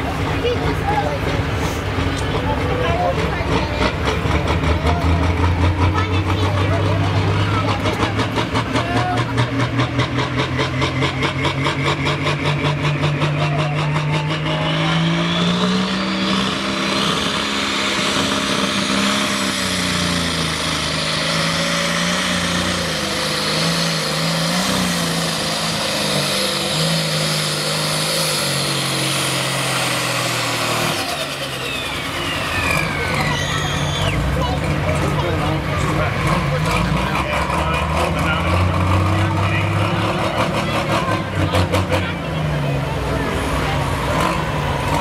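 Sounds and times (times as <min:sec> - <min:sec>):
tractor engine revving: 0:00.0 - 0:45.0.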